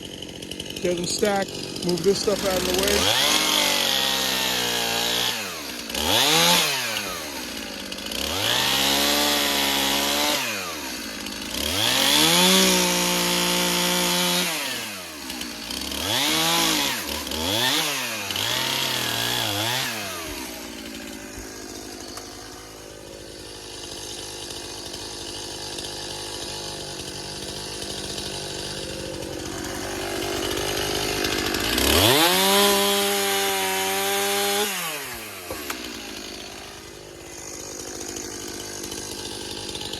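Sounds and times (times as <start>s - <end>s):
chainsaw cutting branches: 0.0s - 39.9s.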